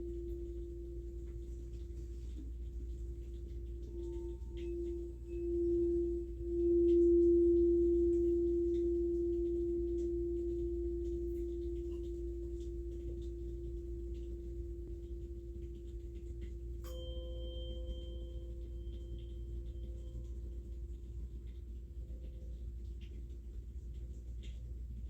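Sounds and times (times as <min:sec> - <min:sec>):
sustained ringing tone: 0:00.0 - 0:02.3, 0:03.1 - 0:21.3.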